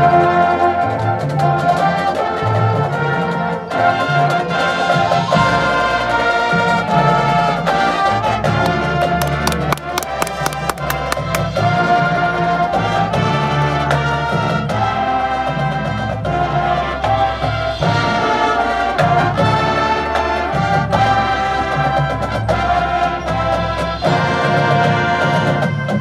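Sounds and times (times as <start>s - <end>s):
drums: 0.0s - 26.0s.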